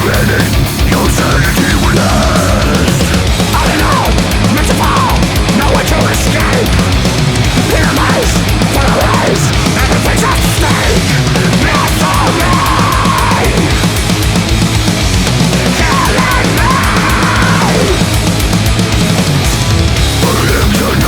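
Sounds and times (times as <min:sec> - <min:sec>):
hard rock music: 0:00.0 - 0:21.0.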